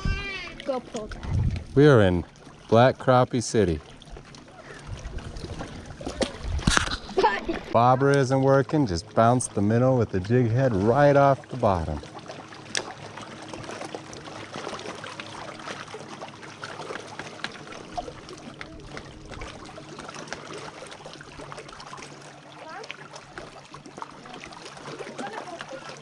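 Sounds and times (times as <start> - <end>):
small waves lapping on shore: 0.0 - 26.0.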